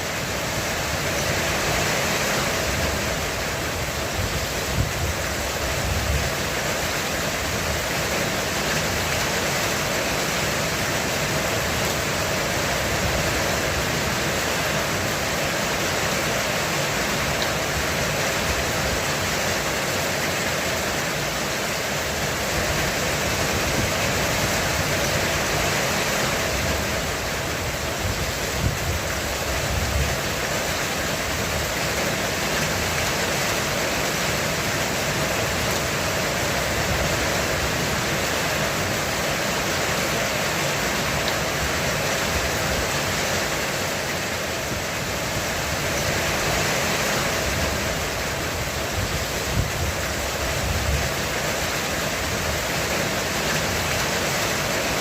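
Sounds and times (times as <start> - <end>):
heavy rain drumming on a roof: 0.0 - 55.0.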